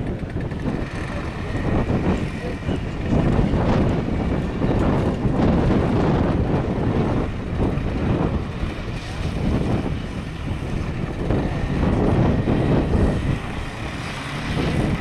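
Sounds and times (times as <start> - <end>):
car engine running: 0.0 - 15.0
wind buffeting microphone: 0.0 - 15.0.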